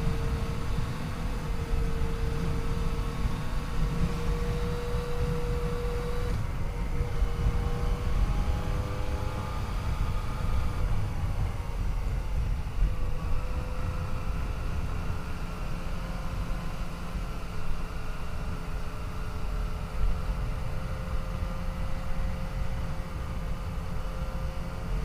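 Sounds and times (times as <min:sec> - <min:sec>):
motorcycle engine running: 0:00.0 - 0:25.0
wind and road noise rumble: 0:00.0 - 0:25.0.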